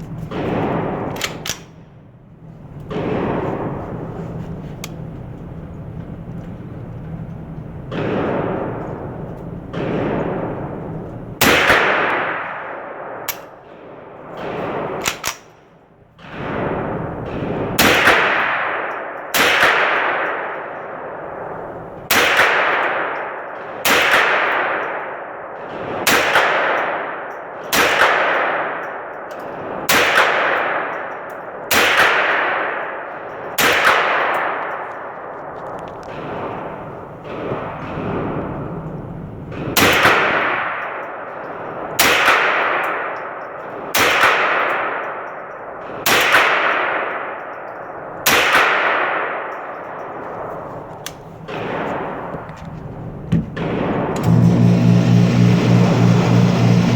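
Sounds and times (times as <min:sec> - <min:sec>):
rifle shots with ringing echo: 0:00.0 - 0:56.5.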